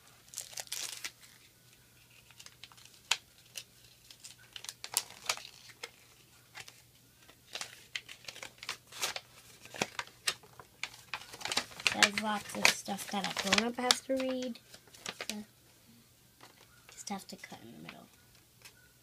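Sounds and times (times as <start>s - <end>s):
packaging crinkling: 0.2s - 15.4s.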